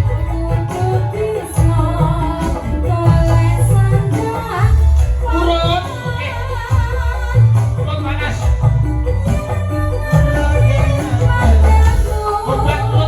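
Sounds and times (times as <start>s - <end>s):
person singing: 0.0s - 13.0s.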